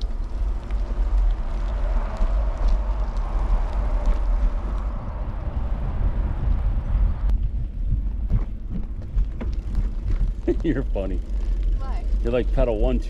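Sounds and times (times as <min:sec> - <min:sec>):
bicycle tyre and road noise: 0:00.0 - 0:13.0
wind rumbling on microphone: 0:00.0 - 0:13.0.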